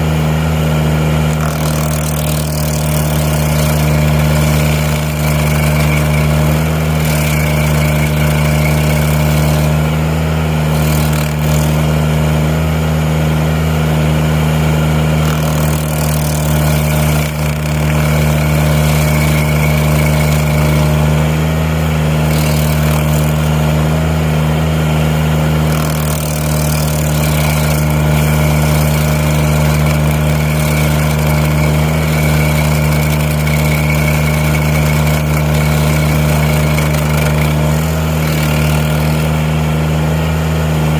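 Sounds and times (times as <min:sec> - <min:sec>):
loader engine running under load: 0:00.0 - 0:40.9
stump grinder high whine: 0:00.0 - 0:40.9.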